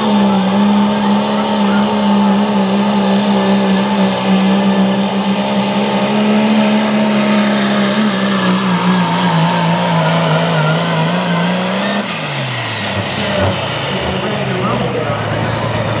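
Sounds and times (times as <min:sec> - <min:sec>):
diesel engine at high revs: 0:00.0 - 0:16.0.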